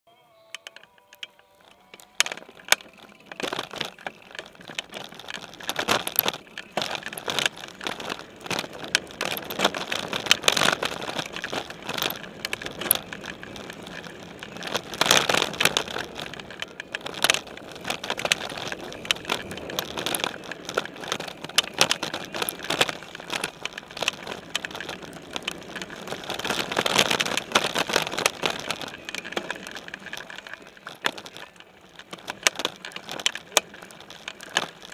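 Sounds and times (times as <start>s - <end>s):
bike frame rattling and knocking: 0.5s - 34.9s
bike tyres crunching over dirt: 0.5s - 34.9s.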